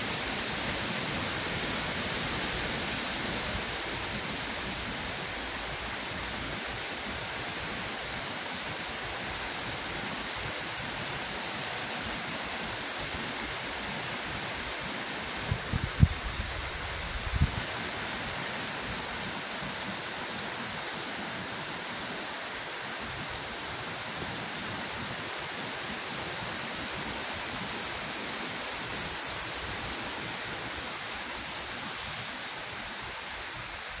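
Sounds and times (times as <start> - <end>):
heavy rain on grass and leaves: 0.0 - 34.0.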